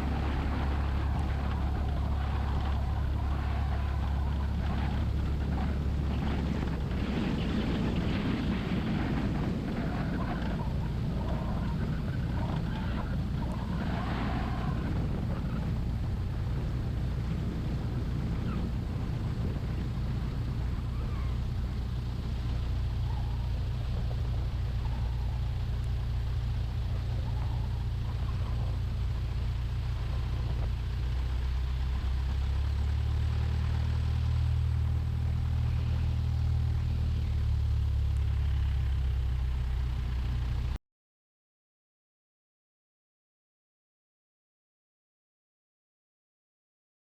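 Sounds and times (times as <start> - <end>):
propeller aircraft engine running: 0.0 - 40.8.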